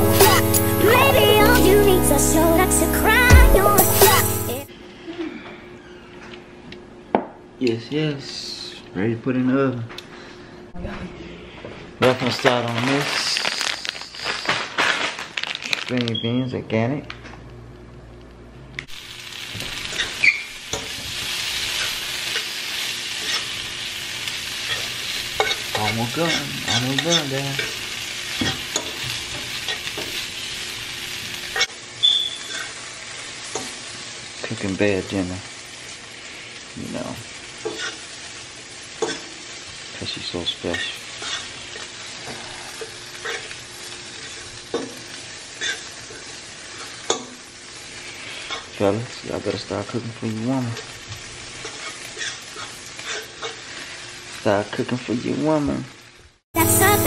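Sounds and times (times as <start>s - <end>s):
beans sizzling in a skillet: 0.0s - 4.7s, 12.4s - 15.8s, 18.9s - 57.0s.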